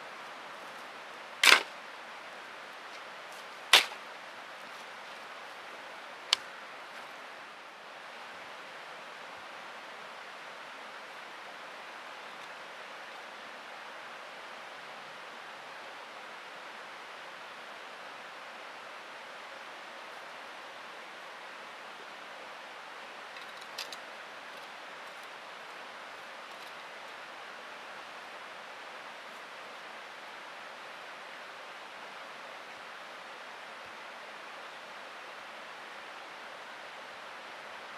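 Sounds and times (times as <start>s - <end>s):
steady background hiss: 0.0s - 37.9s.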